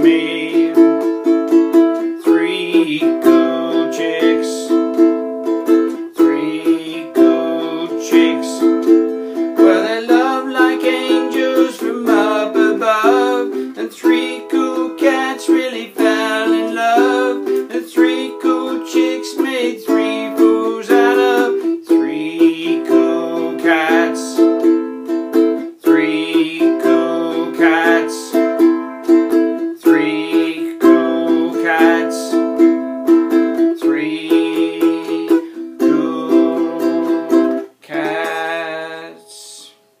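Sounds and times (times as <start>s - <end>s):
ukulele strumming: 0.0s - 39.3s.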